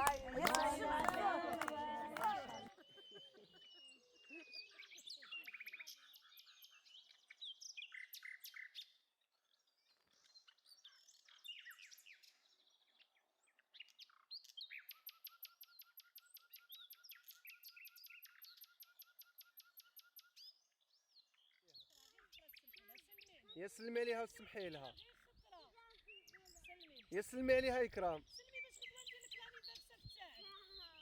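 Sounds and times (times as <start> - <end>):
songbirds chirping: 0.0 - 14.9, 20.2 - 31.0.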